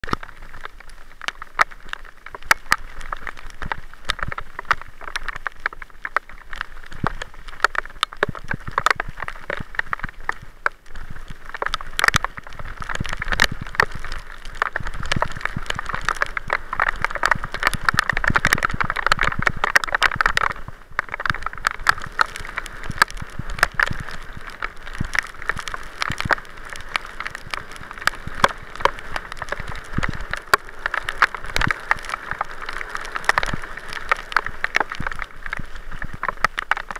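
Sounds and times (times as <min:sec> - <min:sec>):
bicycle rattling over bumps: 0:00.0 - 0:36.9.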